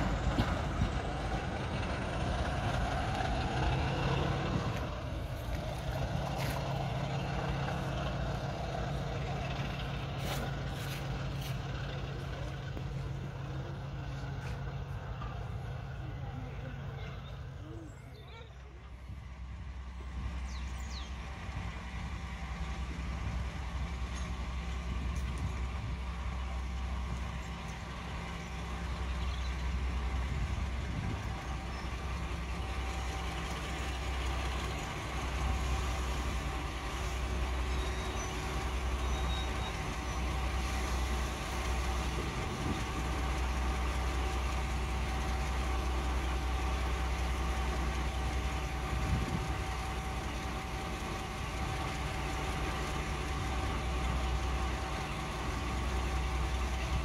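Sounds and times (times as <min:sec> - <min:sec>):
locomotive diesel engine rumbling: 0:00.0 - 0:57.0.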